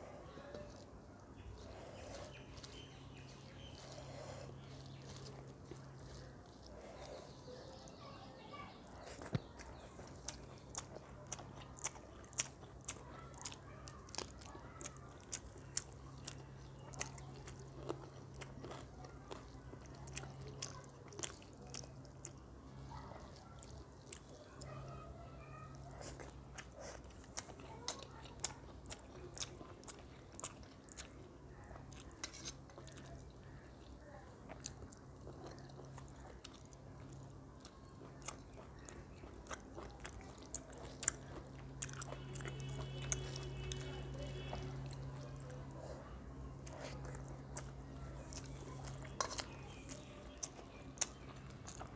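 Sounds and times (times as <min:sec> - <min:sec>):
chewing and biting: 0:00.0 - 0:08.1, 0:08.8 - 0:51.9.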